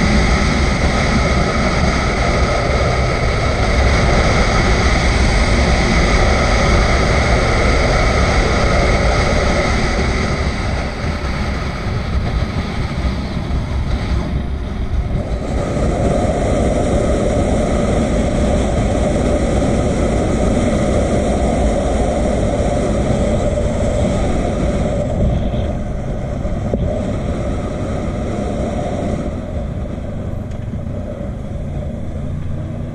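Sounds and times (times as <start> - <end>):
motorcycle engine running: 0.0 - 32.9
wind rushing on microphone: 0.0 - 32.9.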